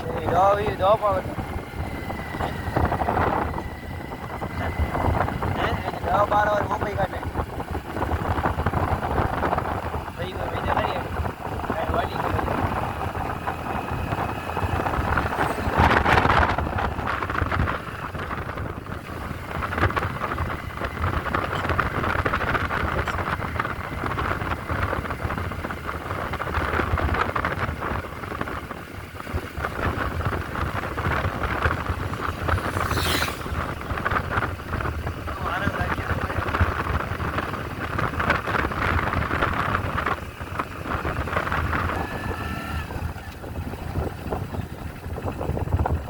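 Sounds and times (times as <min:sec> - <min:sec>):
motorcycle engine: 0:00.0 - 0:46.0
road rumble: 0:00.0 - 0:46.0
wind rushing over microphone: 0:00.0 - 0:46.0.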